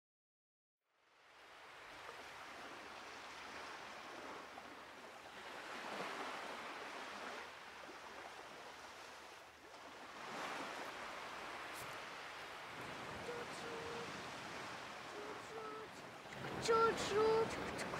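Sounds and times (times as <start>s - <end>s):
waves washing onto a beach: 1.1s - 17.9s.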